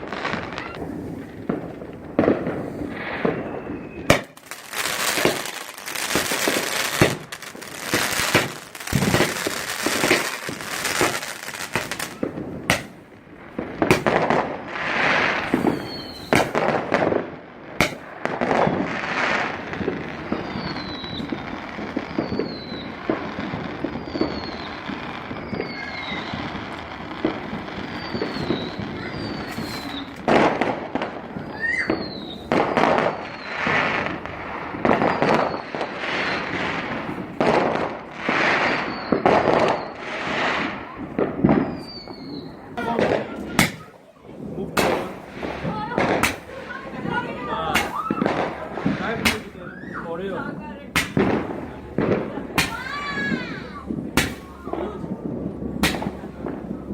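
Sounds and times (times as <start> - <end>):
firework falling whistles: 0.0 - 13.0, 13.8 - 17.0, 17.8 - 37.3, 38.2 - 51.8, 52.6 - 56.9
fireworks bangs and crackling: 0.0 - 56.9.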